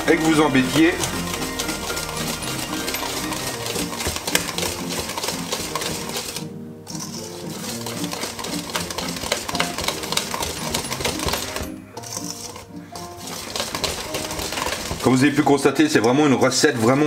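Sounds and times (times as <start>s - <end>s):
whisk clicking in metal bowl: 0.0s - 16.2s.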